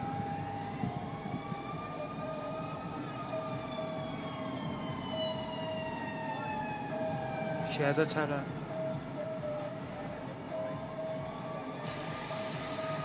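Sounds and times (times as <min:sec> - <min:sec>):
fire engine siren wailing: 0:00.0 - 0:13.0
vehicle engines rumbling: 0:00.0 - 0:13.0.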